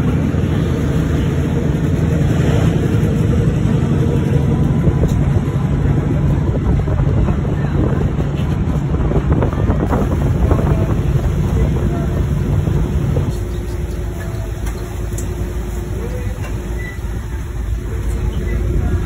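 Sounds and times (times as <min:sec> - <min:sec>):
engine rumble: 0:00.0 - 0:19.0
wind buffeting microphone: 0:00.0 - 0:19.0.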